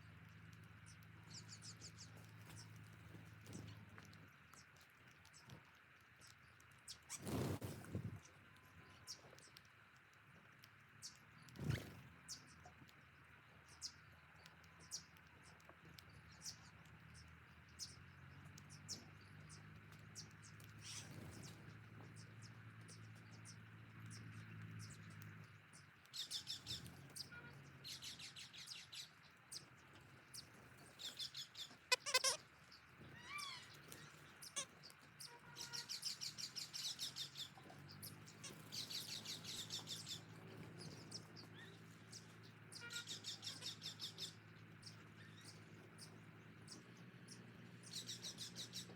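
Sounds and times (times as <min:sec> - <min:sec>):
small birds twittering: 0:00.0 - 0:48.9.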